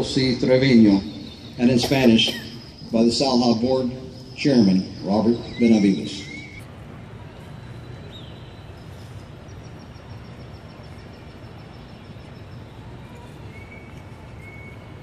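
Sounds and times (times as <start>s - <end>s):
faint high bird chirps: 0.0s - 6.7s, 7.7s - 15.0s.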